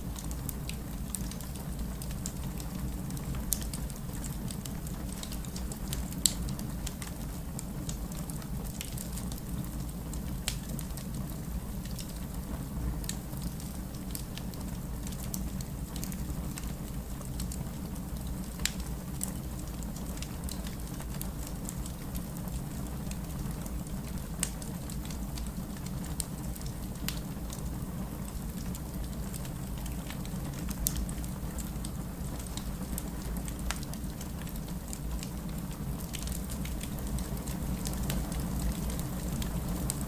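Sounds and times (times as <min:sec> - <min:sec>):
fire crackling and popping: 0:00.0 - 0:40.0
wood fire rumbling: 0:00.0 - 0:40.0.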